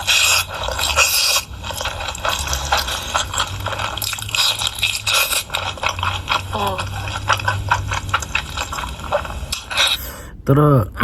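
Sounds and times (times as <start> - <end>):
wet chewing and lip-smacking: 0.0 - 10.3.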